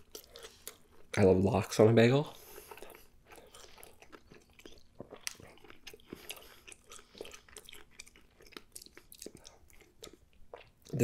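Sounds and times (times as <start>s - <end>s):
person chewing and licking fingers: 0.0s - 1.1s, 2.5s - 11.0s.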